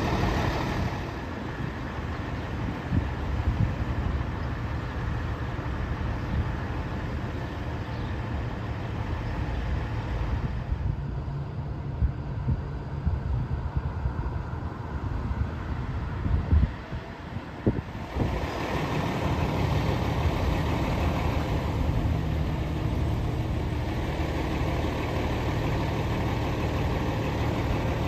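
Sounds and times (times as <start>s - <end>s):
heavy vehicle engine idling: 0.0s - 28.0s
road traffic: 0.0s - 28.0s.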